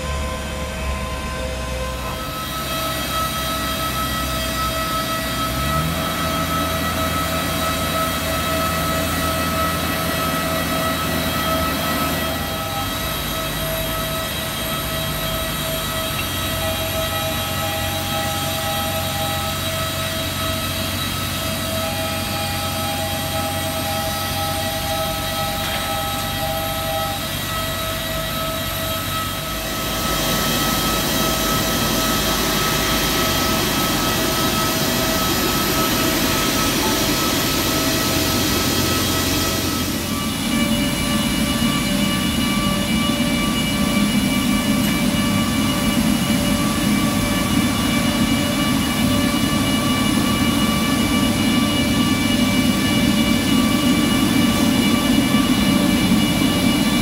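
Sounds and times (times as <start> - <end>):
jet turbines whining: 0.0 - 57.0.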